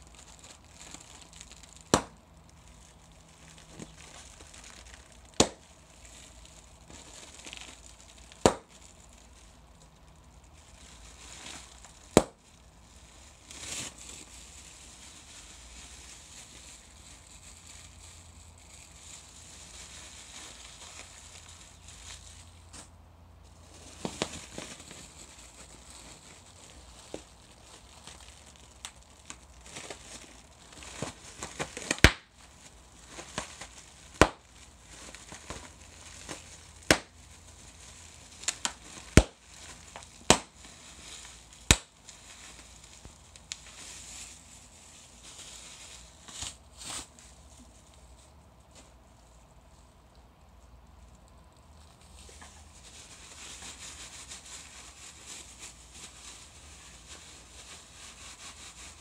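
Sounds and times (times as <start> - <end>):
bubble wrap bubbles popping: 0.0 - 47.9
bubble wrap crinkling: 0.0 - 59.0.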